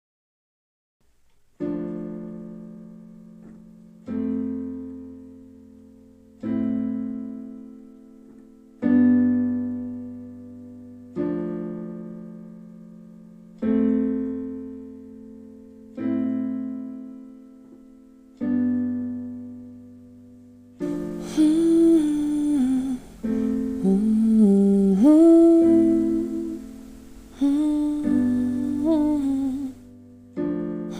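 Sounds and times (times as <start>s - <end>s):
slow piano chords: 1.5s - 30.9s.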